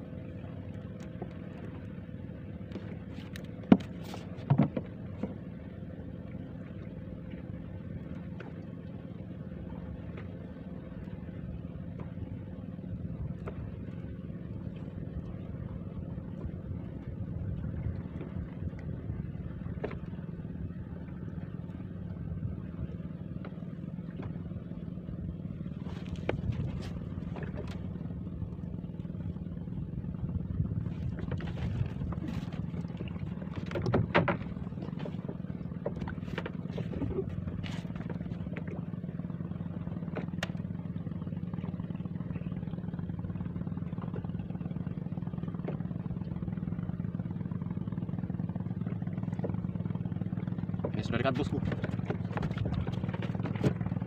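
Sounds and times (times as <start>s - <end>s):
boat engine droning: 0.0s - 54.0s
clicks and knocks in boat: 0.4s - 9.0s, 9.8s - 54.0s.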